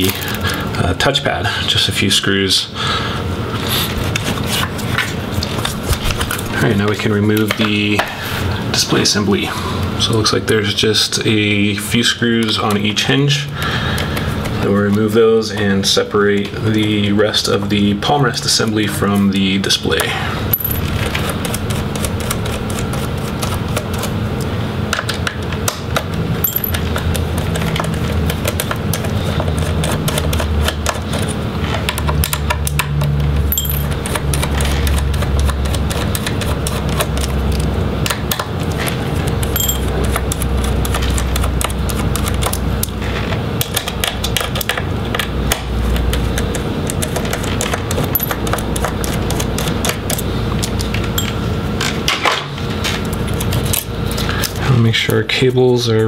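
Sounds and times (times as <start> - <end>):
steady low hum: 0.0 - 32.0, 33.2 - 56.0.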